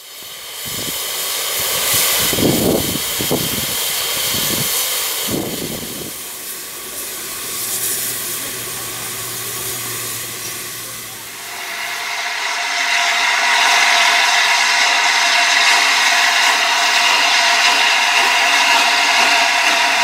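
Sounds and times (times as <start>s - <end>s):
steam hissing from locomotive: 0.0s - 20.0s.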